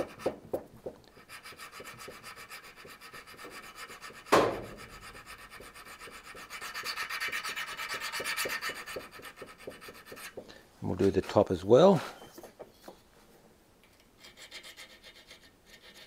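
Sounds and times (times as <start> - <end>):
tool bit rubbed on a hone: 1.1 - 12.6, 14.0 - 16.0.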